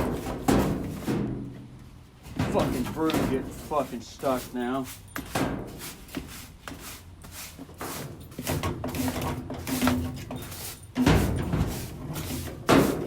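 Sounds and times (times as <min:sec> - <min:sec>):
broom knocking and scraping: 0:00.0 - 0:13.0.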